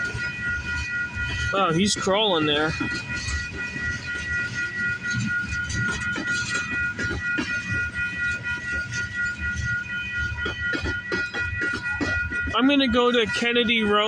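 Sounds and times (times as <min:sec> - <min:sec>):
freight train rumbling: 0:00.0 - 0:14.0
steady high-pitched tone: 0:00.0 - 0:14.0.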